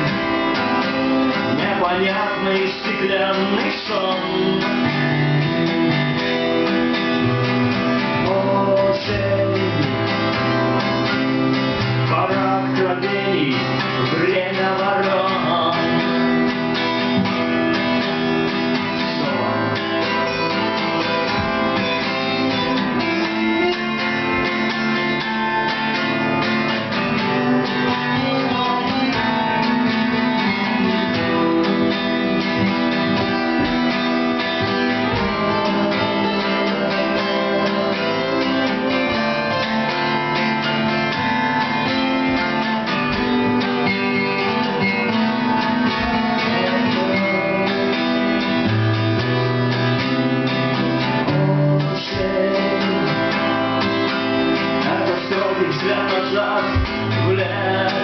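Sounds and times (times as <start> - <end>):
acoustic guitars strumming chords: 0.0 - 58.0
picked guitar lead line: 0.0 - 58.0.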